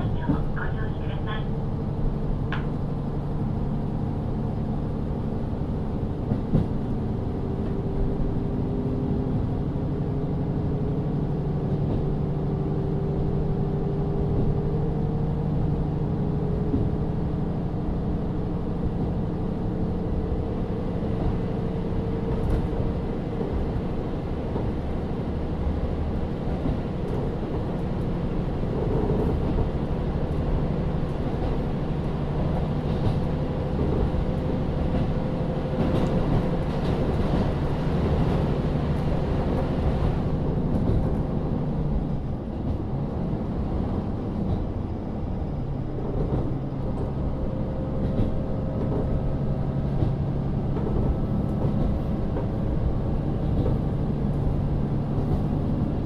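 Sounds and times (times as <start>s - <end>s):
diesel engine drone: 0.0s - 56.0s
train wheels rumbling: 0.0s - 56.0s.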